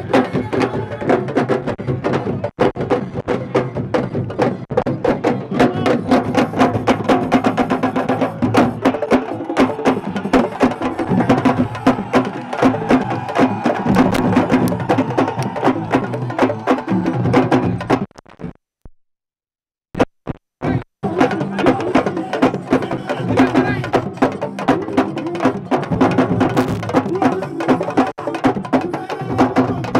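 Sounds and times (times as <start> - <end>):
drum ensemble playing fast rhythm: 0.0 - 18.1, 20.6 - 29.9.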